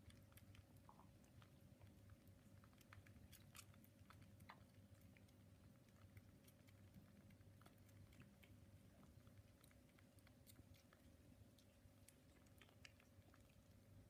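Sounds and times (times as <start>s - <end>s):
faint low hum: 0.0s - 14.0s
kittens suckling clicks: 0.0s - 14.0s.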